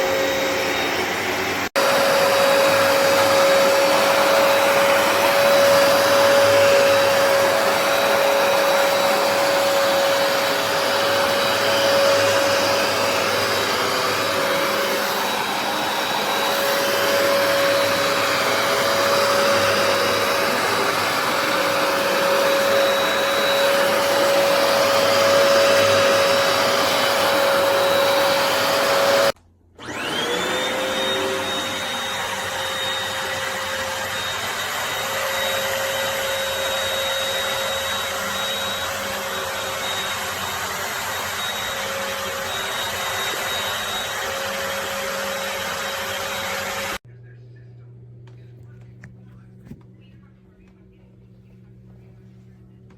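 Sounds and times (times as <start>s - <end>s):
carpet cleaner motor whining: 0.0s - 47.0s.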